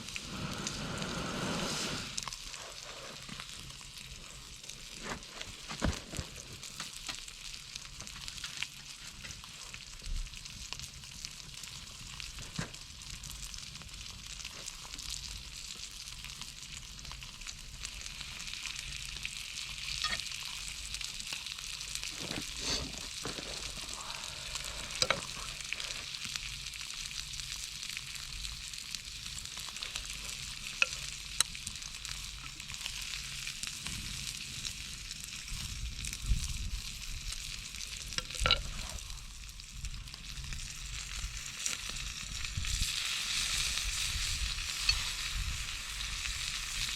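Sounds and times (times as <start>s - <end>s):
ribs sizzling over charcoal: 0.0s - 46.9s.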